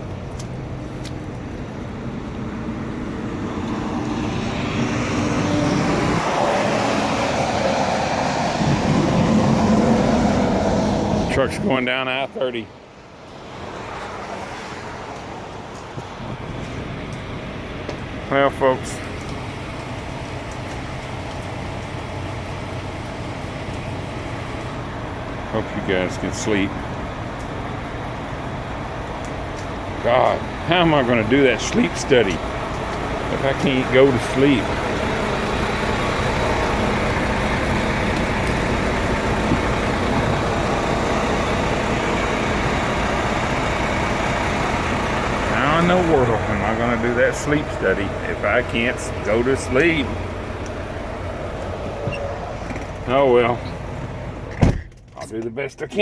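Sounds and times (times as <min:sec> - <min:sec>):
low engine hum: 0:00.0 - 0:56.0.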